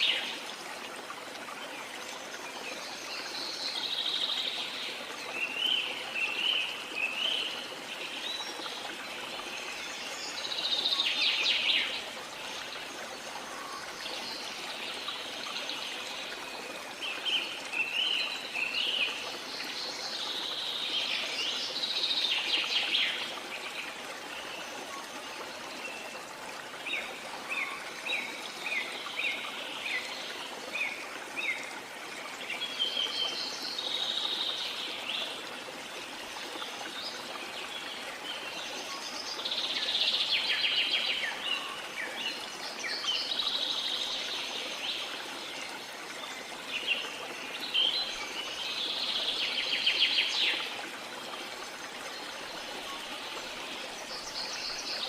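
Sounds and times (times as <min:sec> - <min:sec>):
rushing water: 0:00.0 - 0:55.0
songbirds singing: 0:01.6 - 0:55.0.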